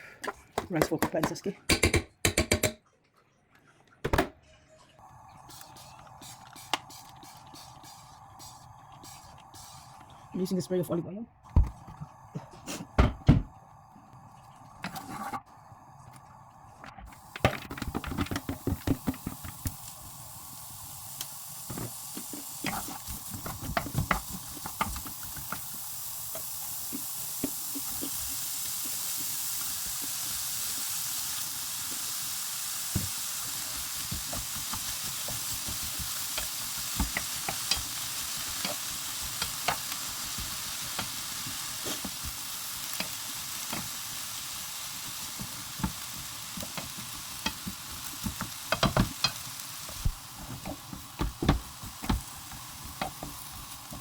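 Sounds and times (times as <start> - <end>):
food sizzling in a pan: 5.0 - 54.0.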